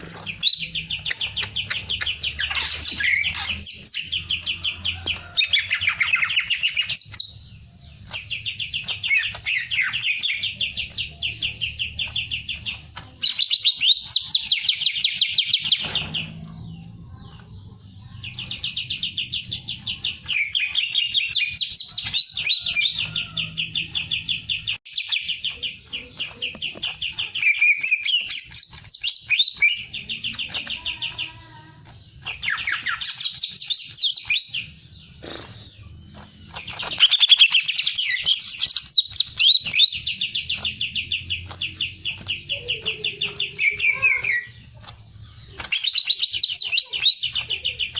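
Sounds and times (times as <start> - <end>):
songbird chirping rapidly: 0.0 - 47.9.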